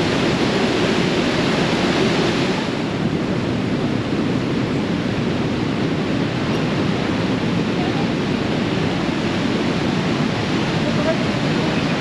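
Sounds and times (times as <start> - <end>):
waterfall and rapids rushing: 0.0 - 12.0.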